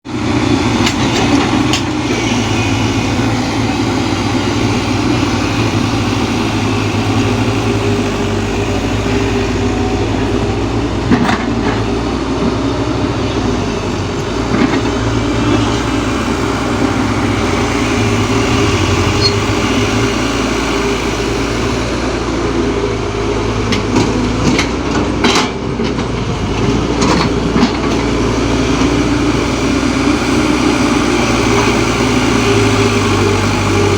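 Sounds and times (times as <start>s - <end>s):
heavy diesel engines running: 0.0s - 33.9s.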